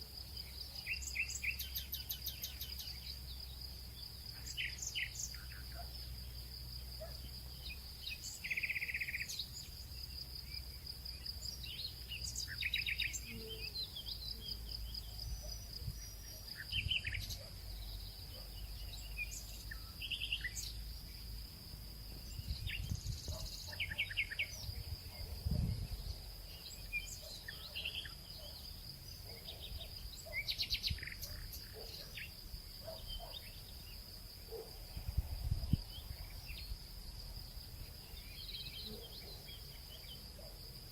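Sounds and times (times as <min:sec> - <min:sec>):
small birds chirping: 0:00.0 - 0:37.0, 0:37.6 - 0:40.9.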